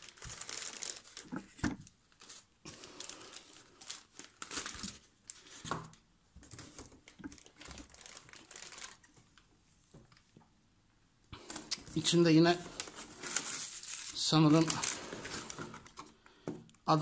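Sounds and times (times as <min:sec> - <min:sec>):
plastic packaging crinkling: 0:00.0 - 0:09.4, 0:11.4 - 0:16.3.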